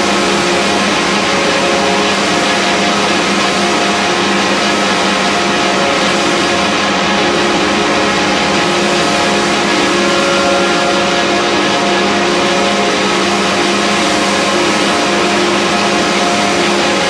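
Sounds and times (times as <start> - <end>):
dense electronic drone: 0.0 - 17.0.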